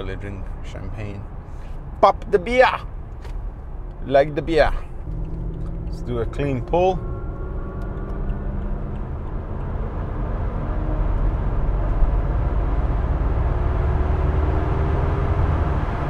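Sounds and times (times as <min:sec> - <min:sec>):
road noise: 0:00.0 - 0:16.0
car engine at full throttle: 0:01.5 - 0:16.0.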